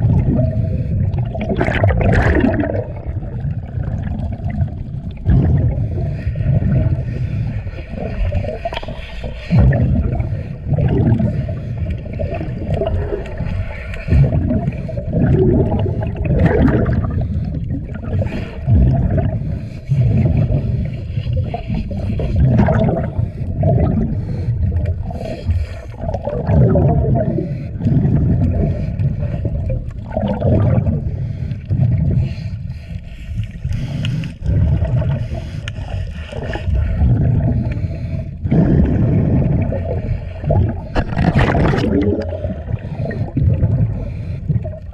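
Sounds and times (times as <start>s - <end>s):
underwater bubbles gurgling: 0.0s - 44.9s.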